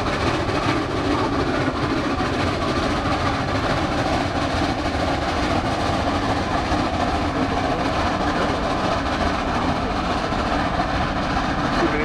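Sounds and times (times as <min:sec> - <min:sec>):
steam locomotives chuffing: 0:00.0 - 0:12.0.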